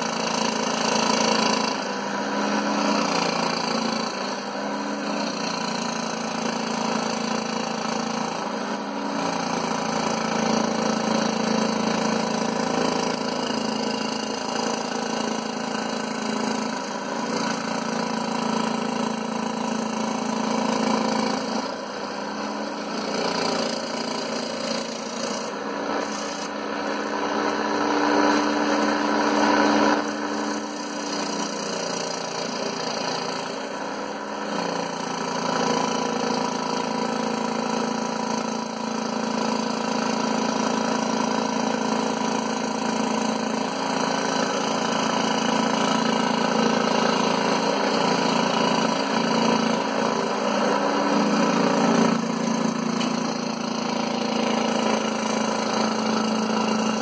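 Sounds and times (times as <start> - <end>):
scroll saw cutting: 0.0 - 57.0.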